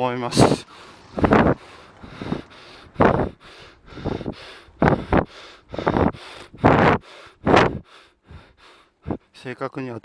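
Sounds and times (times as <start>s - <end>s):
person breathing hard: 0.5s - 9.4s.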